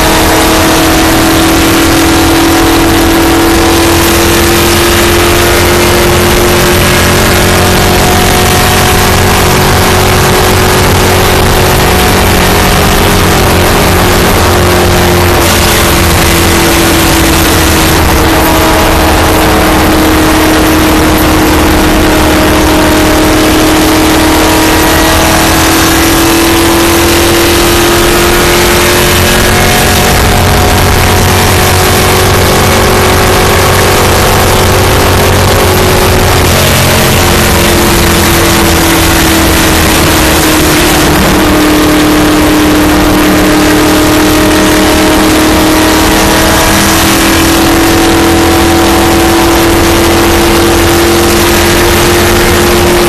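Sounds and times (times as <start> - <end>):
car engine at high revs: 0.0 - 53.0
wind and road rush: 0.0 - 53.0.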